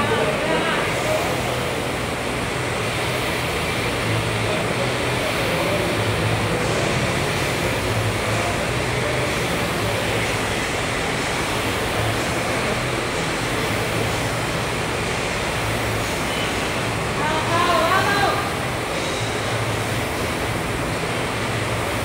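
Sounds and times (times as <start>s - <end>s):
rowing machine flywheel whirring: 0.0s - 22.0s.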